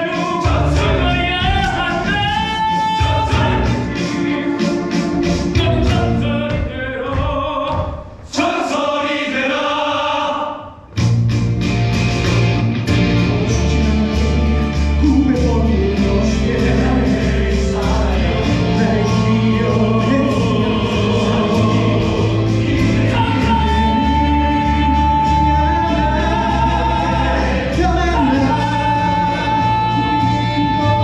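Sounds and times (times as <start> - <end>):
ensemble singing together: 0.0 - 10.9, 12.9 - 31.0.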